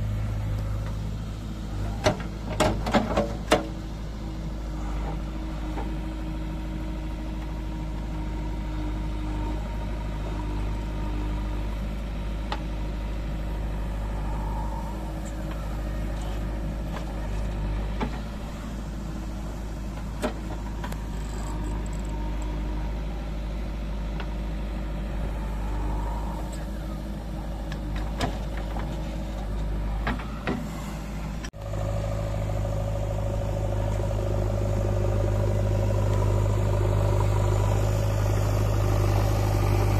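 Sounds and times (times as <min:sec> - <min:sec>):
diesel engine running: 0:00.0 - 0:39.9
engine idling: 0:00.0 - 0:39.9.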